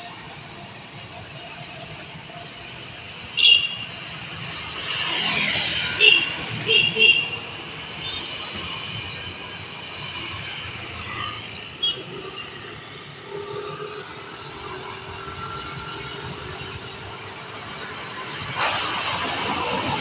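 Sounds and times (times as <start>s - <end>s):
high-pitched background whine: 0.0s - 20.0s
motorcycles passing: 3.0s - 20.0s.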